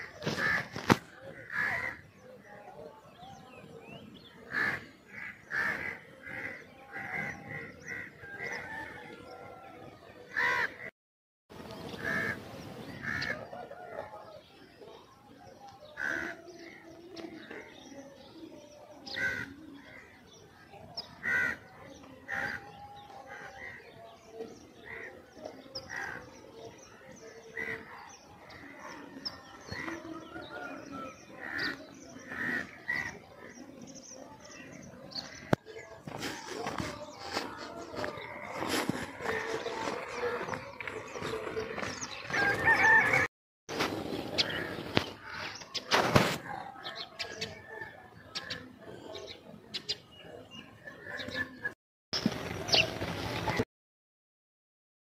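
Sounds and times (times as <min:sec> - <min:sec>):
birds chirping: 0:00.0 - 0:10.9, 0:11.5 - 0:53.6.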